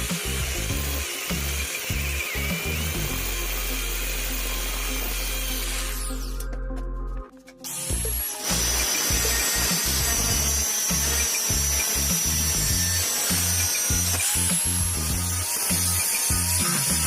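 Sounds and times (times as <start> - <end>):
power drill whining: 0.0 - 6.5, 7.7 - 17.0
background music with bass beat: 0.0 - 17.0.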